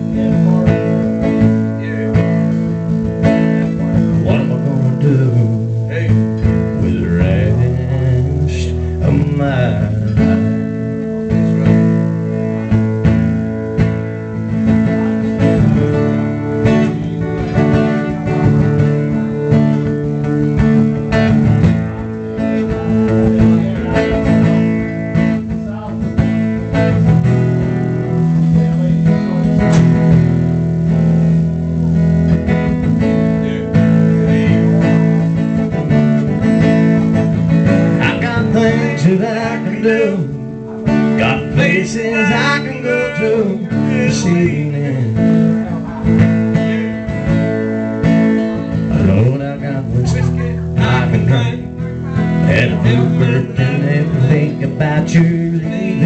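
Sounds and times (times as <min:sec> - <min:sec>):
picked guitar lead line: 0:00.0 - 0:56.0
strummed acoustic guitar chords: 0:00.0 - 0:56.0.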